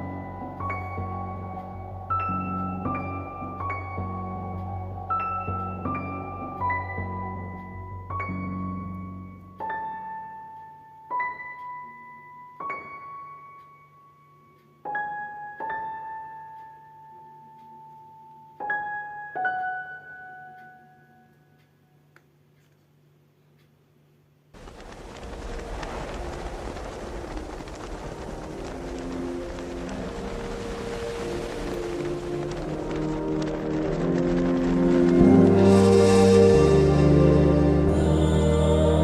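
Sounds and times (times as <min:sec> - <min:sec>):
slow piano melody: 0:00.0 - 0:22.1, 0:28.4 - 0:39.0.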